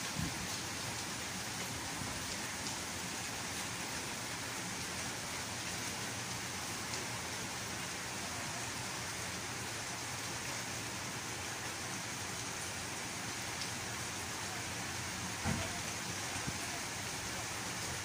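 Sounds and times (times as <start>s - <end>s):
gentle rain falling: 0.0s - 18.0s.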